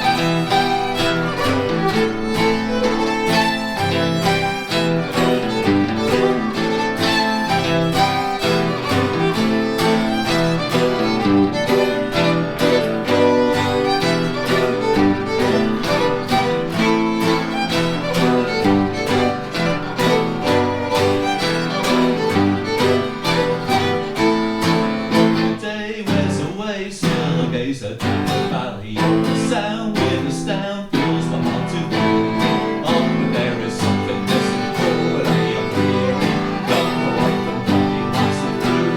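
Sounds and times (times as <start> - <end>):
fiddle playing brisk tune: 0.0 - 26.6, 28.3 - 38.9
electric guitar accompaniment: 0.0 - 38.9.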